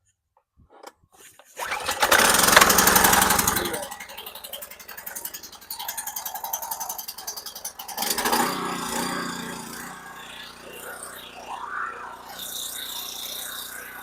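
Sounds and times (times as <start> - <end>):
loud rattling noise: 1.6 - 14.0
small gasoline engine ticking: 1.6 - 14.0.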